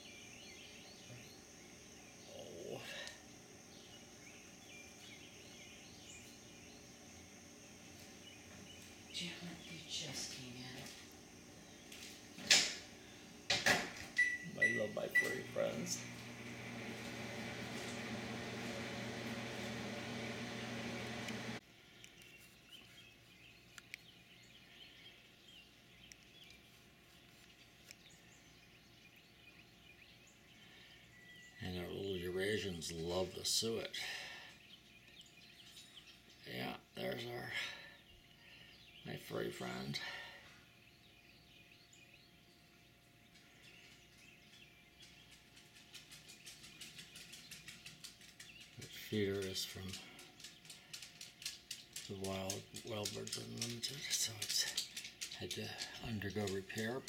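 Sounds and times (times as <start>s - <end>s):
small birds chirping softly: 0.0s - 57.0s
songbirds singing: 0.0s - 57.0s.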